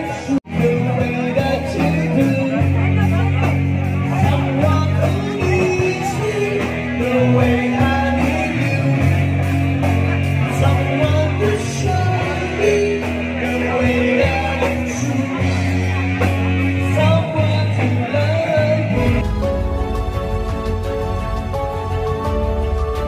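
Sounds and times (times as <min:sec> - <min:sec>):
song with singing: 0:00.0 - 0:23.0.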